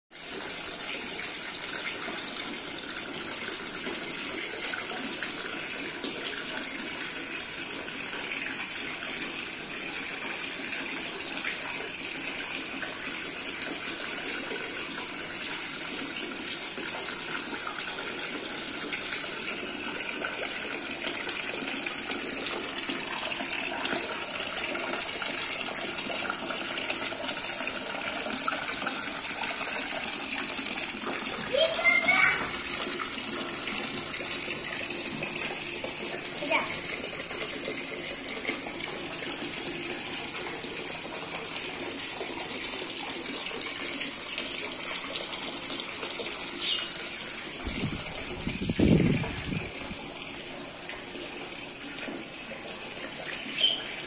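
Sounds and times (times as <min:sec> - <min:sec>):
fountain water splashing into basin: 0:00.1 - 0:54.0.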